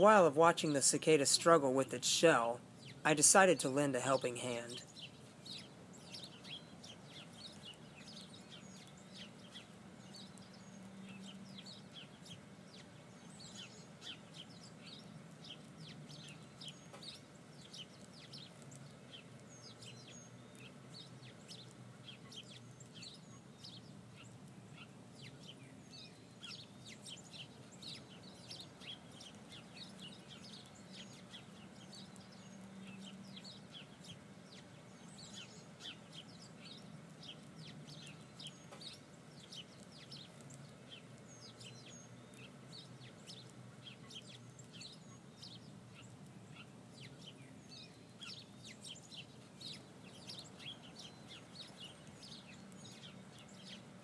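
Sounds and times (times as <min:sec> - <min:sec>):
birds chirping: 0:00.0 - 0:54.0
low steady hum: 0:00.0 - 0:54.0.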